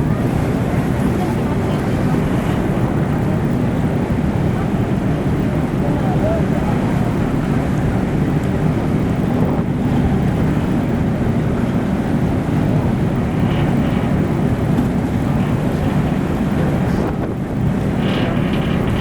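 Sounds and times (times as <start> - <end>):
ferry engine droning: 0.0 - 19.0
water rushing: 0.0 - 19.0
wind on microphone: 0.0 - 19.0.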